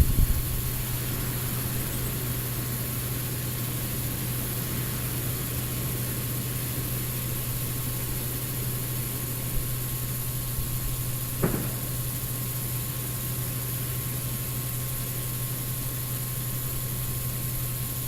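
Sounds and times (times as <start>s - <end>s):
electric fuel pump humming: 0.0s - 18.0s.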